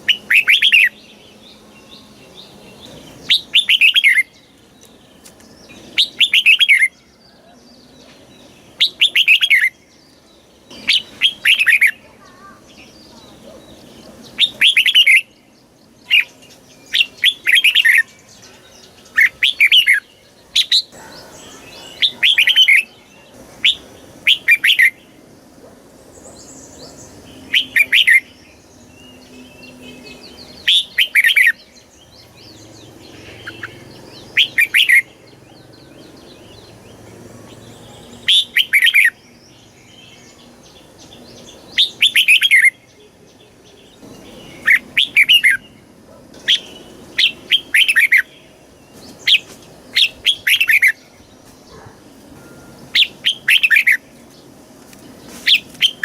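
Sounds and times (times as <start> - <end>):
bird warbling song: 0.0 - 56.0.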